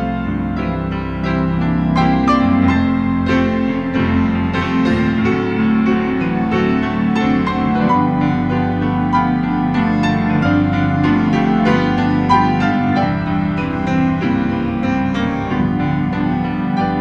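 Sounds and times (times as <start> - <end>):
organ chords: 0.0 - 17.0
piano notes: 0.0 - 17.0.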